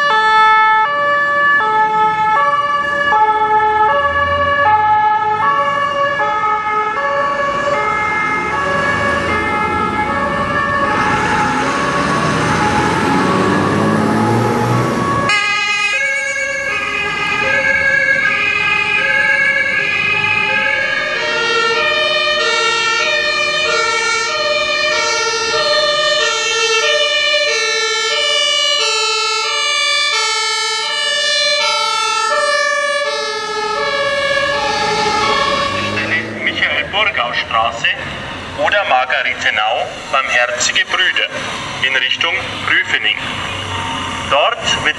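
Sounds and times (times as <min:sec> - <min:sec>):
engine and road noise: 0:00.0 - 0:44.9
two-tone sirens: 0:00.0 - 0:44.9.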